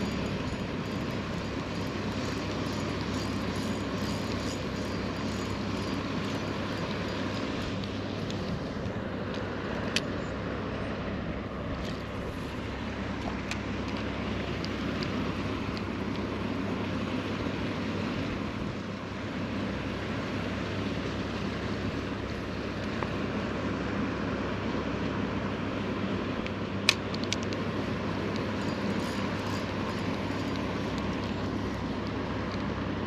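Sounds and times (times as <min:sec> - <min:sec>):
low even hum: 0:00.0 - 0:33.0
steady rushing outdoor noise: 0:00.0 - 0:33.0.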